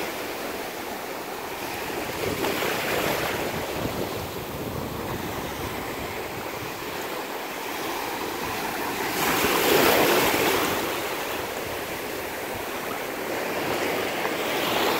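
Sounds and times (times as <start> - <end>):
waves washing onto beach: 0.0 - 14.9.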